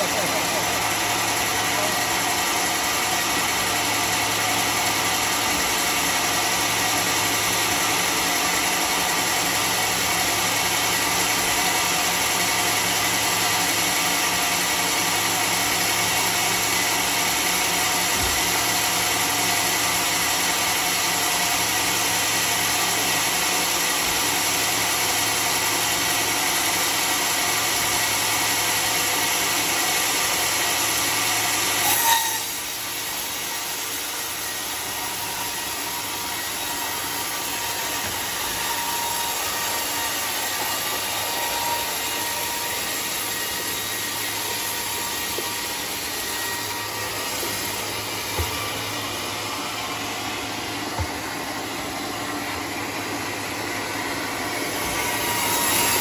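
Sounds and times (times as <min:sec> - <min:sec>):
band saw motor and blade whine: 0:00.0 - 0:56.0
saw blade cutting log: 0:00.0 - 0:56.0.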